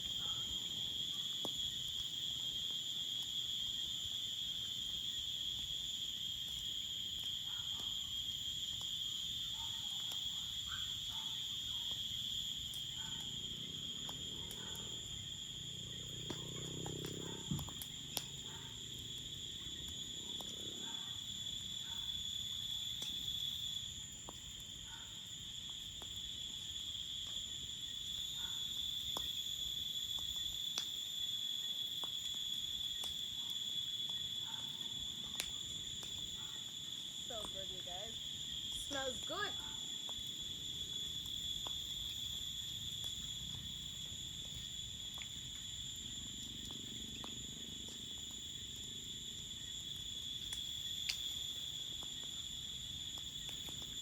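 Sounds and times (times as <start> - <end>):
crickets chirring: 0.0 - 54.0.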